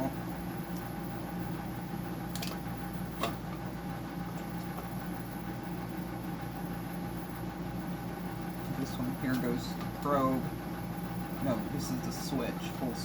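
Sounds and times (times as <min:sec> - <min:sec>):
electrical machine hum: 0:00.0 - 0:13.0.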